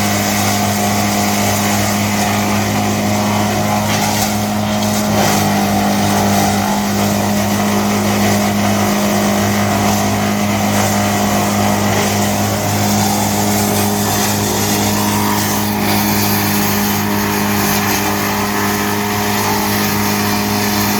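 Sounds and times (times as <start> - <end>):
low engine hum: 0.0 - 20.9
woodchipper rushing noise: 0.0 - 20.9.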